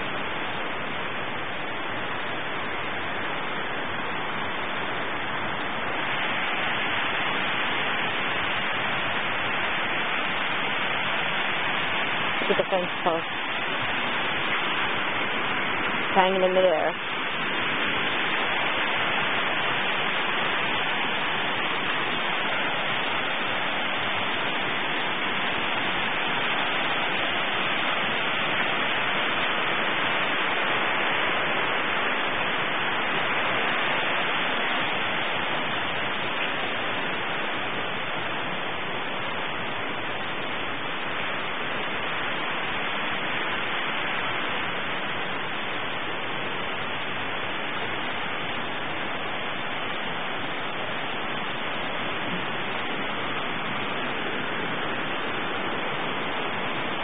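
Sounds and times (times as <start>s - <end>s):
brook water rushing: 0.0s - 57.0s.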